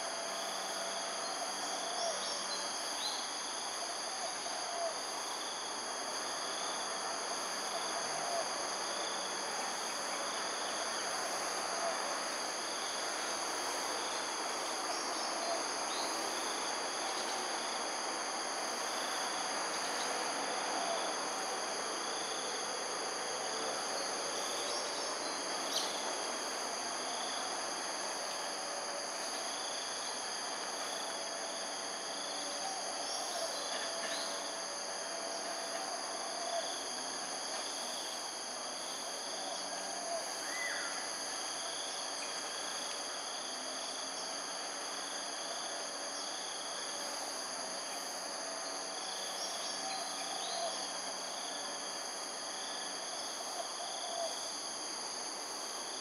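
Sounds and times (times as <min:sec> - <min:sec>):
background hiss: 0:00.0 - 0:56.0
insects droning: 0:00.0 - 0:56.0.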